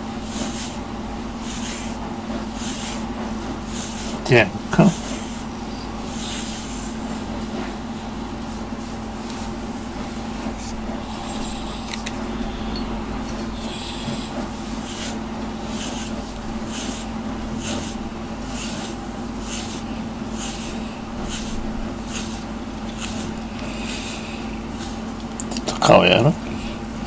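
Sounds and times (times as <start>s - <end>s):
hand stroking cat fur: 0.0s - 25.2s
low hum: 0.0s - 25.4s.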